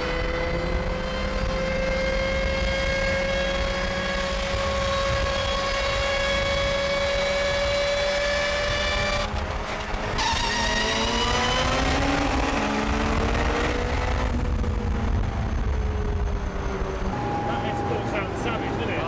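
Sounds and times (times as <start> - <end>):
car engine drone: 0.0 - 19.0
road noise: 0.0 - 19.0.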